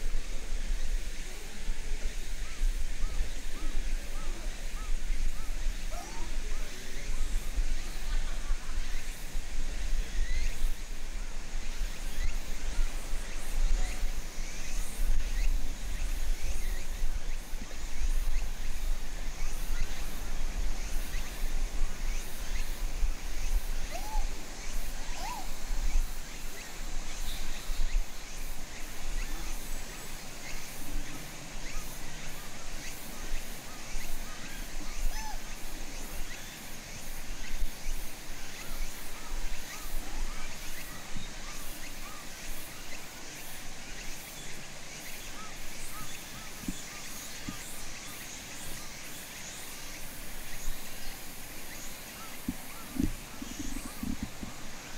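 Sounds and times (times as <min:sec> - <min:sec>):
background hiss: 0:00.0 - 0:54.9
faint chirps: 0:02.3 - 0:54.9.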